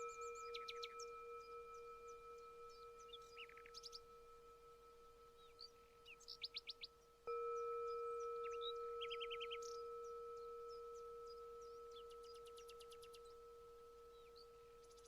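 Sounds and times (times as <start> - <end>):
meditation bell ringing: 0.0 - 15.0
small birds chirping: 0.0 - 15.0.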